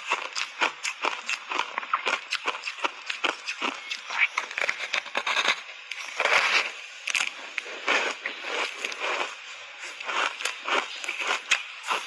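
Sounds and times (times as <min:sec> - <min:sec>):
ice crunching while chewed: 0:00.0 - 0:12.0.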